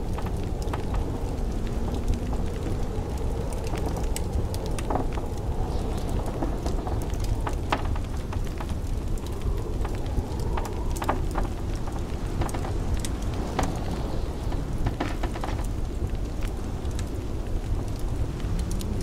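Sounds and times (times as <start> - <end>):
blizzard wind rushing: 0.0 - 19.0
wood fire crackling and popping: 0.0 - 19.0.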